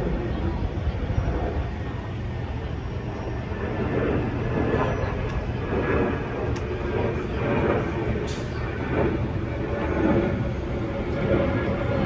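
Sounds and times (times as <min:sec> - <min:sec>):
jet airliner rumbling overhead: 0:00.0 - 0:12.0.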